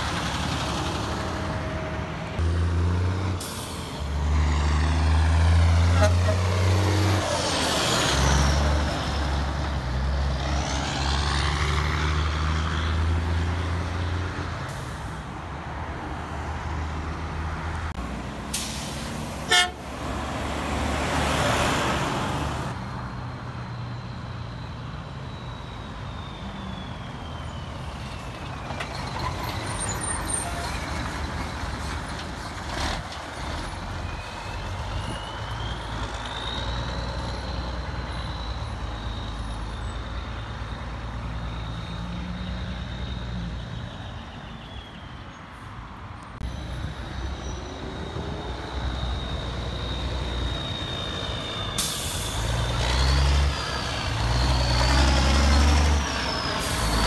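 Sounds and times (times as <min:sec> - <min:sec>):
truck diesel engine passing: 0:00.0 - 0:44.3, 0:45.5 - 0:57.0
road traffic noise: 0:00.0 - 0:57.0.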